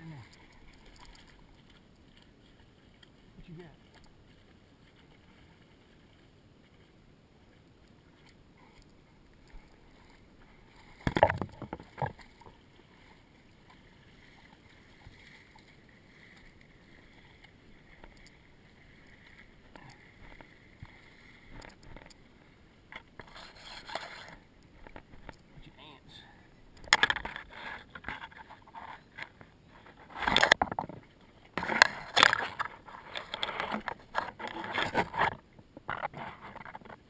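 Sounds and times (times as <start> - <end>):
close splashing and rustling: 0.0 - 25.7, 26.6 - 37.0
water sloshing around wading legs: 0.0 - 25.7, 26.3 - 37.0.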